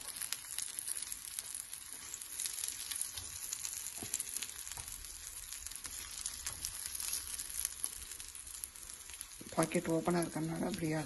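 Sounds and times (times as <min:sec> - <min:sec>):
butter sizzling on a griddle: 0:00.0 - 0:11.0.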